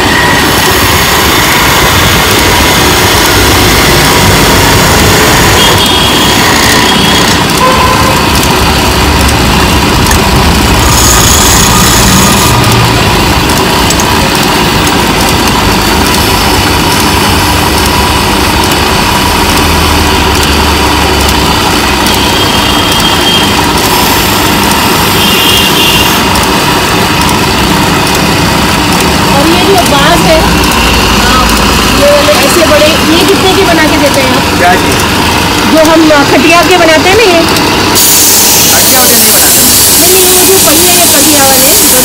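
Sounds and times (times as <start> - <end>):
chisel cutting spinning wood: 0.0 - 25.1, 26.0 - 42.0
wood lathe running: 0.0 - 42.0.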